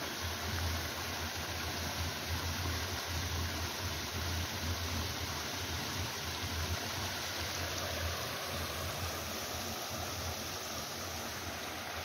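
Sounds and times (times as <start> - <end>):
stream cascading over rocks: 0.0 - 12.0.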